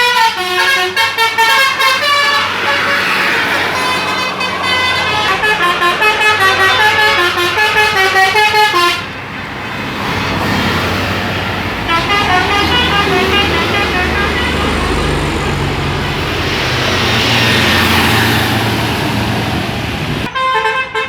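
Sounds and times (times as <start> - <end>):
multi-tone musical bus horn: 0.0 - 9.7, 10.3 - 18.6, 20.2 - 21.0
bus engine running: 0.0 - 20.3.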